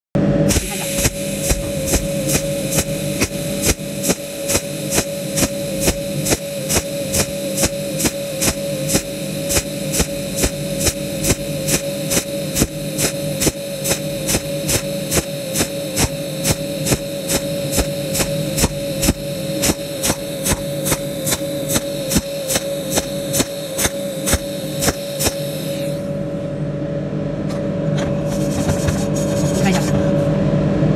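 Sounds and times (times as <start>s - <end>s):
welding arc buzzing: 0.3s - 26.4s, 28.1s - 30.2s.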